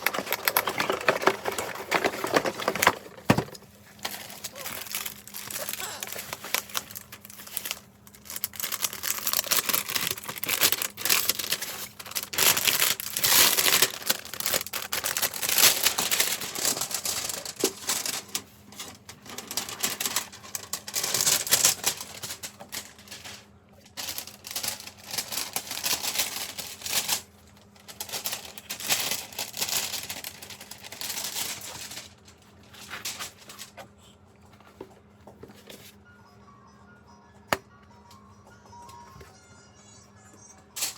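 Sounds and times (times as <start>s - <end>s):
plastic and paper packaging crinkling: 0.0s - 36.0s.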